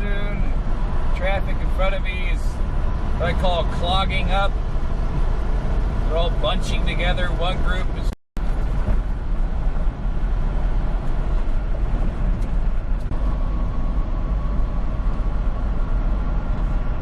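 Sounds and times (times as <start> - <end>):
road noise inside cab: 0.0 - 17.0
truck engine rumble: 0.0 - 17.0.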